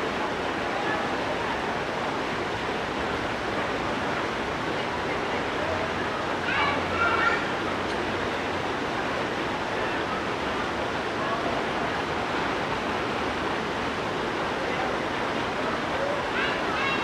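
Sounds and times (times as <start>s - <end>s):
faint distant voices: 0.0s - 17.0s
flowing water rushing: 0.0s - 17.0s.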